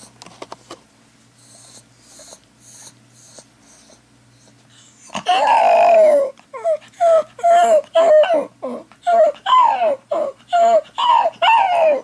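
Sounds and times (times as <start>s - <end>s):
dog howling and whining: 1.4s - 12.0s.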